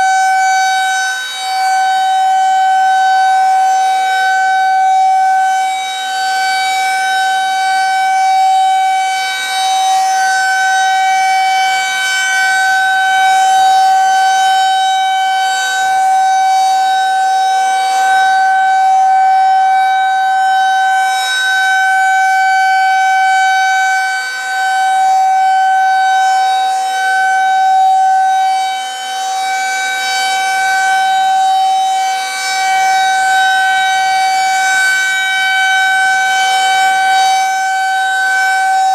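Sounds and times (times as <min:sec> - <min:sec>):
outdoor warning siren: 0:00.0 - 0:38.9.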